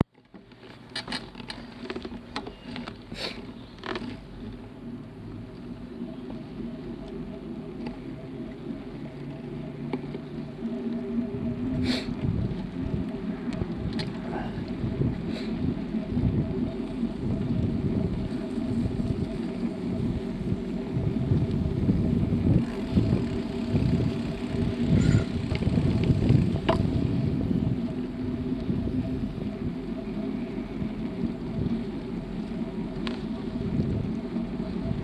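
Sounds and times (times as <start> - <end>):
bicycle road noise: 0.0 - 35.0
faint steady hum: 0.0 - 35.0
wind noise: 4.0 - 35.0.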